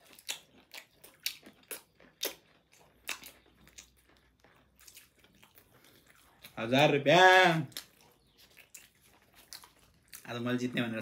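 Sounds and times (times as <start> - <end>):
person chewing food: 0.0 - 6.9, 7.6 - 11.0.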